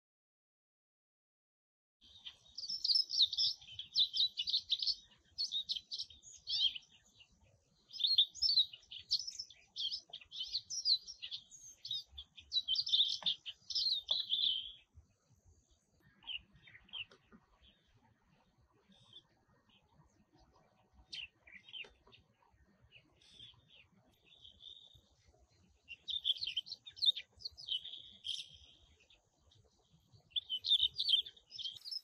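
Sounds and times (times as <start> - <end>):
songbird chirping and twittering: 2.0 - 32.0.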